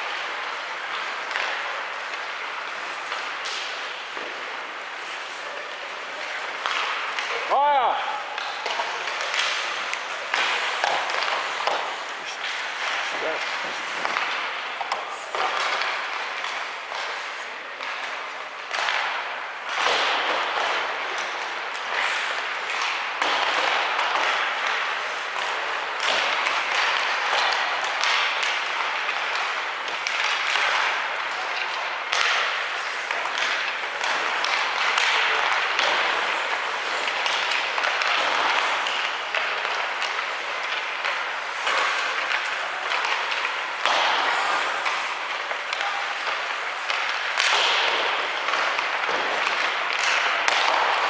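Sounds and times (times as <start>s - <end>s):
din of play and spectators: 0.0s - 51.0s
hockey sticks and puck knocking: 0.0s - 51.0s.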